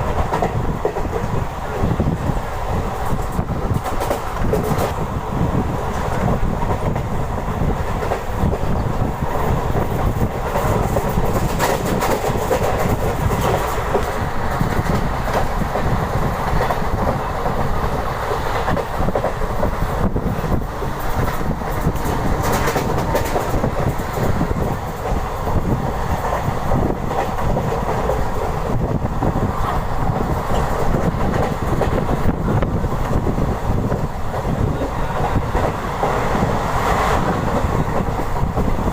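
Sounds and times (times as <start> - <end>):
passenger train rumbling: 0.0 - 38.9
train wheels clattering over rail joints: 3.0 - 5.0, 5.8 - 38.9.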